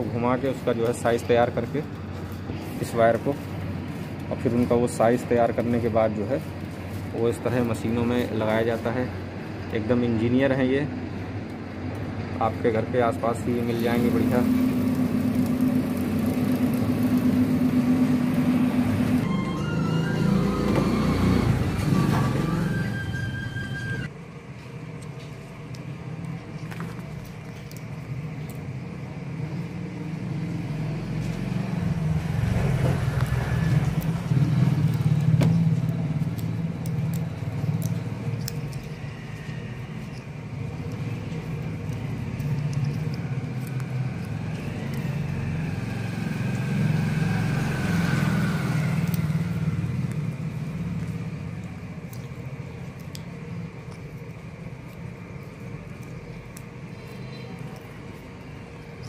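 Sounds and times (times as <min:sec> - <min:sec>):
low engine-like rumble: 0:00.0 - 0:19.8, 0:21.4 - 0:59.0.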